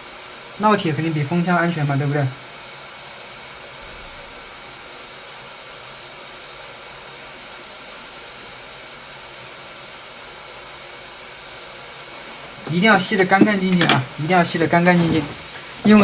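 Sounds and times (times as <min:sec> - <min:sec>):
electric blower airflow hiss: 0:00.0 - 0:16.0.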